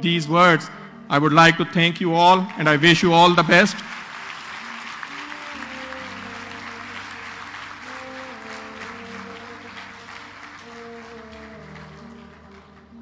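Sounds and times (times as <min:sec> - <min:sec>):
background music held notes: 0:00.0 - 0:13.0
audience applauding: 0:02.5 - 0:13.0.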